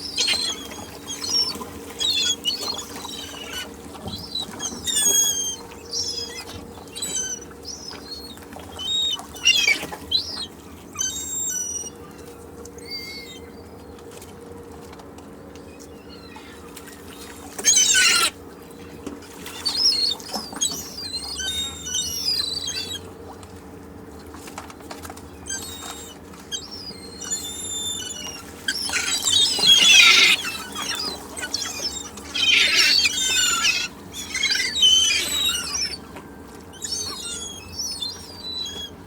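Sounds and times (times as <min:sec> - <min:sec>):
seagulls calling: 0:00.0 - 0:13.8, 0:15.8 - 0:23.4, 0:25.2 - 0:39.0.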